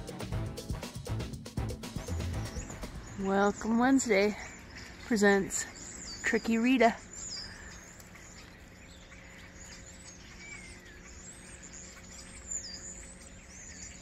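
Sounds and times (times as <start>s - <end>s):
birds chirping: 0.0s - 14.0s
faint steady hum: 2.6s - 14.0s.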